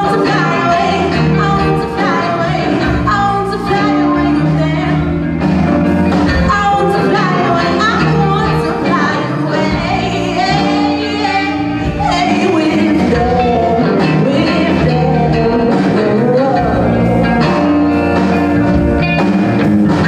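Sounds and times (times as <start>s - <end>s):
woman singing lead: 0.0s - 5.4s, 6.2s - 18.8s
bass guitar: 0.0s - 20.0s
drums: 0.0s - 20.0s
electric guitars: 0.0s - 20.0s.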